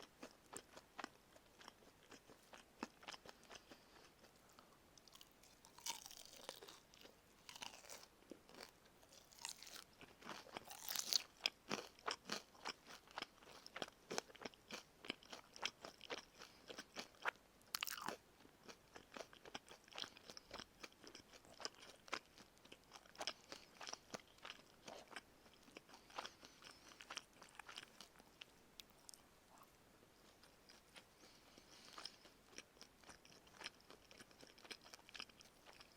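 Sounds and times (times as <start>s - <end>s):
crunching and chewing fried chicken: 0.0s - 35.9s.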